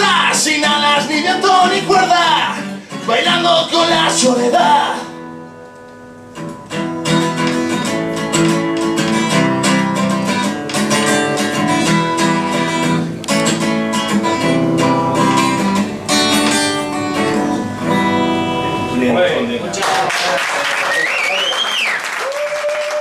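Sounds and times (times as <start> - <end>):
acoustic guitar strumming: 0.0 - 19.7.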